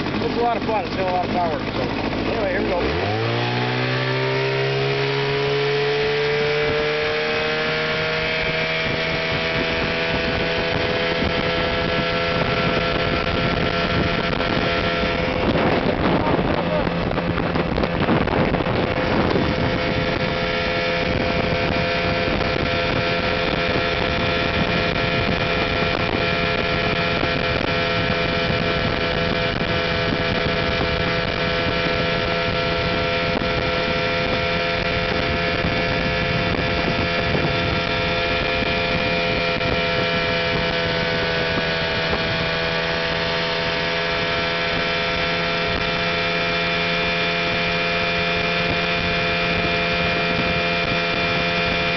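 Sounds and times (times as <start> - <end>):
outboard motor running: 0.0 - 51.9
wind on microphone: 0.0 - 51.9.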